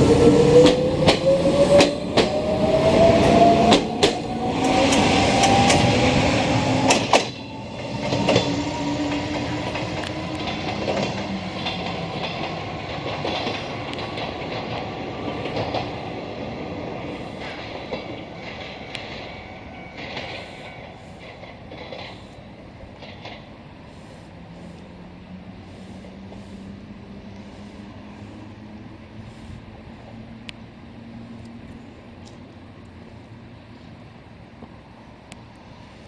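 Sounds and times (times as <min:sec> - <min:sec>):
train wheels clicking over rail joints: 0:00.0 - 0:33.4
electric train pulling away: 0:00.0 - 0:34.4.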